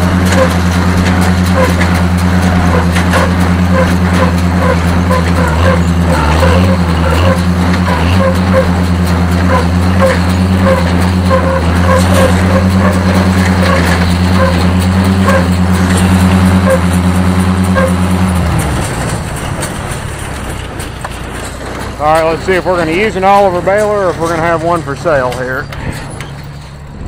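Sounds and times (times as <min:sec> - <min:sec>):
hay baler running: 0:00.0 - 0:27.0
tractor engine drone: 0:00.0 - 0:27.0.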